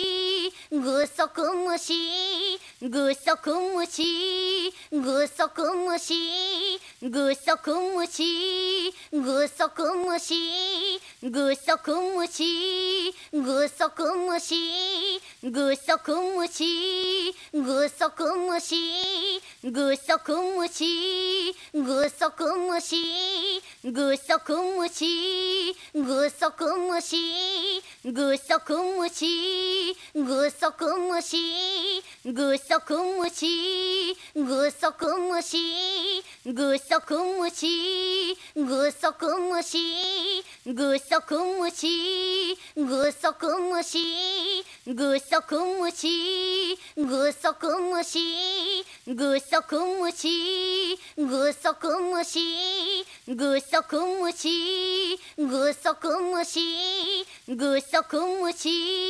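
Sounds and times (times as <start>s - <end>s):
girl singing sing-song chant: 0.0s - 59.0s.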